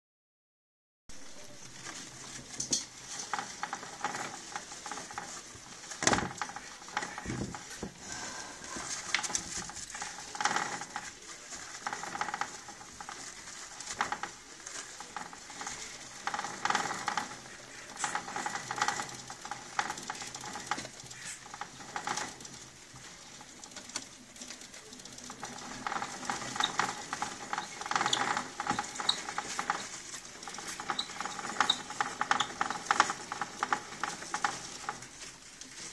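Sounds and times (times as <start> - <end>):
hamsters scrabbling in bedding: 1.1 - 35.9.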